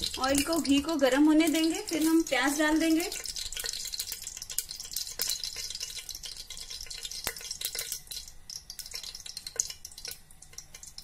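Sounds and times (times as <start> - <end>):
oil sizzling with crackles and pops: 0.0 - 11.0.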